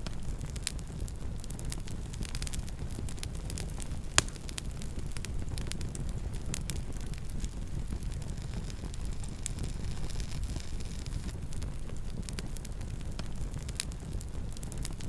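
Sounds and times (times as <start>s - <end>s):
campfire crackling: 0.0s - 15.0s
low rumble of fire: 0.0s - 15.0s.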